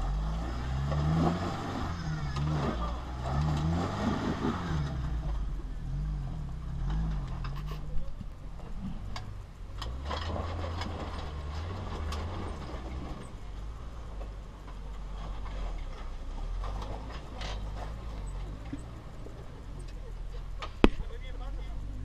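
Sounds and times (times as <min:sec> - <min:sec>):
engine revving under load: 0:00.0 - 0:22.0.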